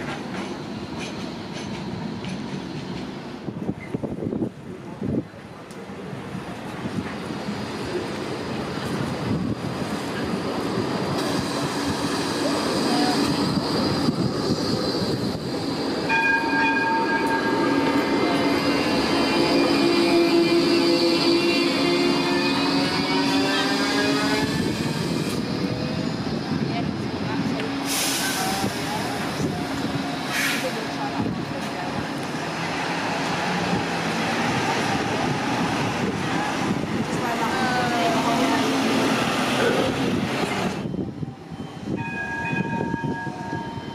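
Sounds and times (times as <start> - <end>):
road traffic noise: 0.0 - 43.9
tram wheels rumbling: 0.0 - 43.9.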